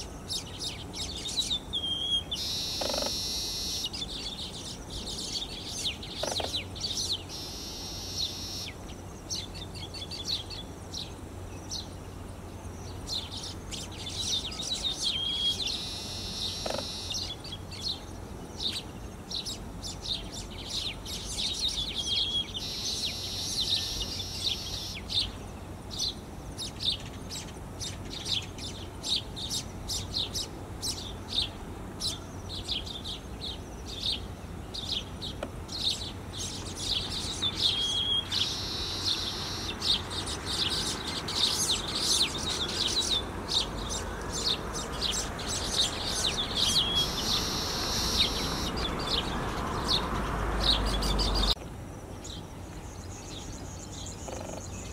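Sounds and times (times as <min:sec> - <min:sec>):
bird chattering and wheezing song: 0:00.0 - 0:12.0, 0:12.8 - 0:51.6.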